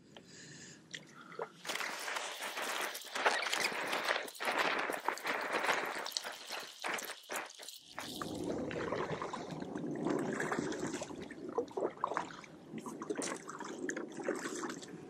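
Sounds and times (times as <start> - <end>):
water trickling and splashing: 1.0 - 15.0
paddle strokes through water: 1.4 - 15.0.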